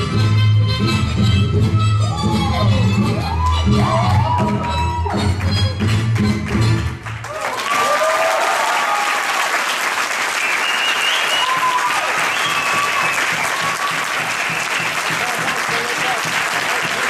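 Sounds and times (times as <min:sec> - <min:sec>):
audience applauding: 0:03.2 - 0:17.0.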